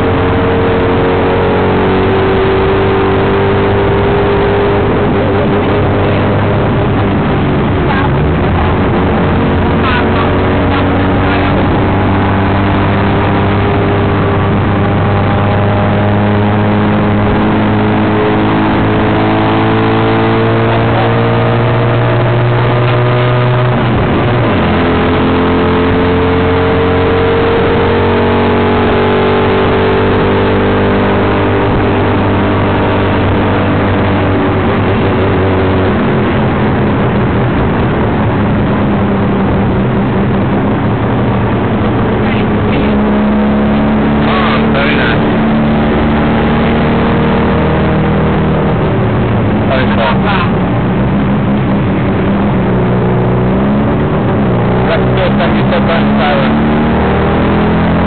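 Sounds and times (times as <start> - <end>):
road and wind rush: 0.0 - 58.0
tuk tuk engine running: 0.0 - 58.0.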